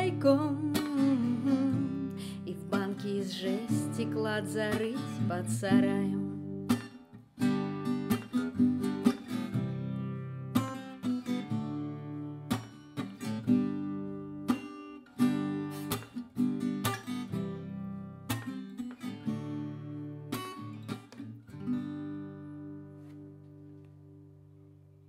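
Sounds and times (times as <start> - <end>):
acoustic guitar strumming: 0.0 - 24.9.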